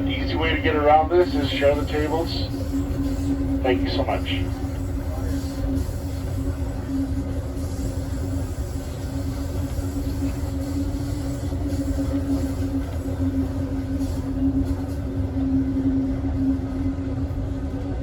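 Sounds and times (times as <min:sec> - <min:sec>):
constant hum: 0:00.0 - 0:18.0
train rumbling on rails: 0:00.0 - 0:18.0.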